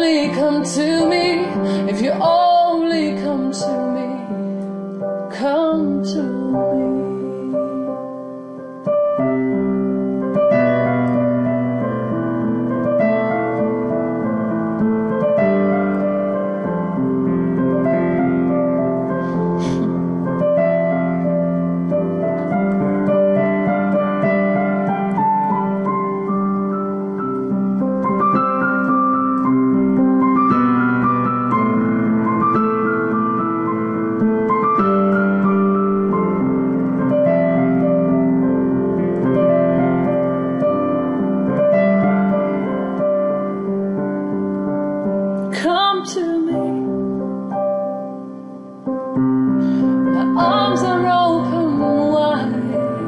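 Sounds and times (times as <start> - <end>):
solo piano playing chords: 0.0 - 53.0.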